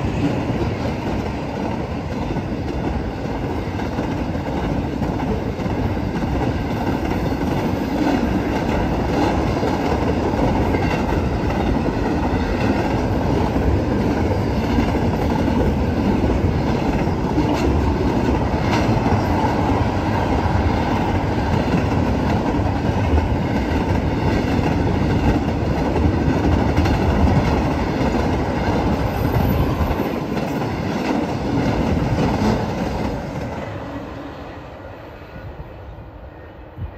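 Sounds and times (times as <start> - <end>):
freight train wheels rumbling: 0.0 - 36.9.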